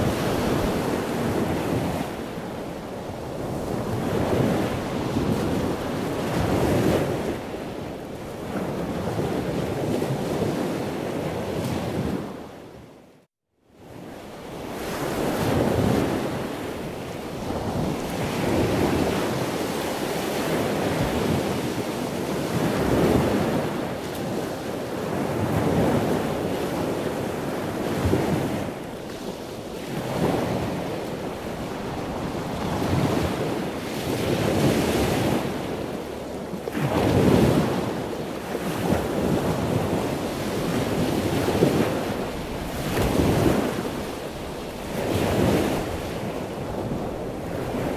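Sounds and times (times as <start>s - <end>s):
wind buffeting microphone: 0.0s - 13.0s, 13.9s - 47.9s
ocean waves breaking on beach: 0.0s - 13.1s, 13.8s - 47.9s.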